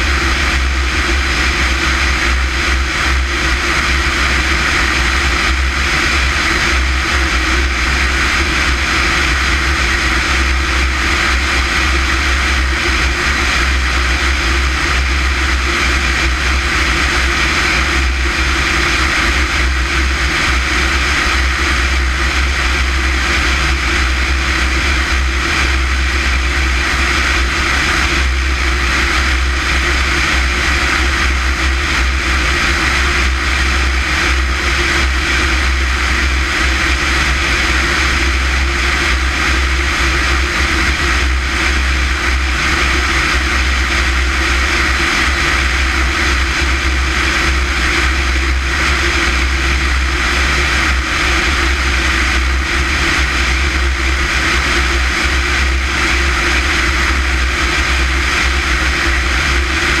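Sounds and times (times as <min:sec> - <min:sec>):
propeller airplane engine drone: 0:00.0 - 1:00.0.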